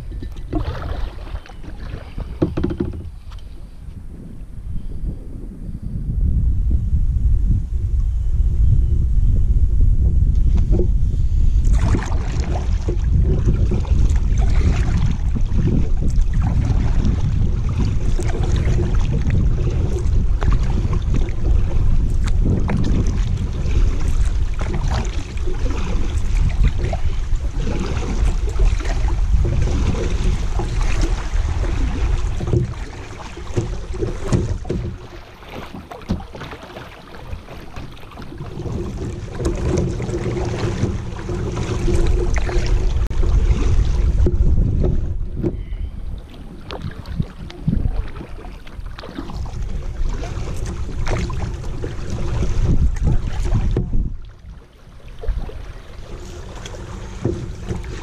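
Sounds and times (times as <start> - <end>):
fast river current: 0.0 - 2.9, 11.6 - 58.0
paddle splashing in water: 0.0 - 4.0, 10.4 - 58.0
wind rumbling on microphone: 0.0 - 58.0.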